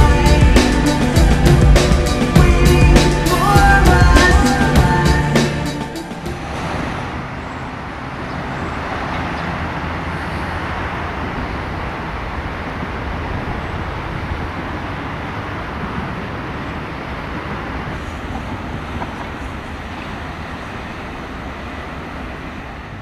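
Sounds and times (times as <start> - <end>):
cars passing: 0.0 - 23.0
electric train running: 0.0 - 23.0
road traffic hum: 0.0 - 23.0.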